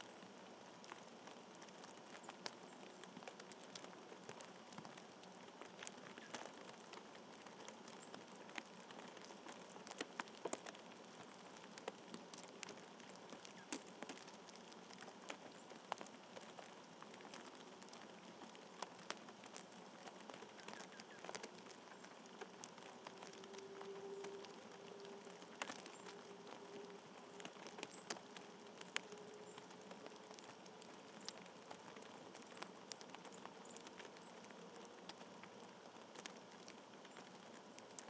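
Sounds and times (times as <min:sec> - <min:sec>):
faint steady outdoor hiss: 0:00.0 - 0:38.0
light ticks and taps: 0:00.8 - 0:38.0.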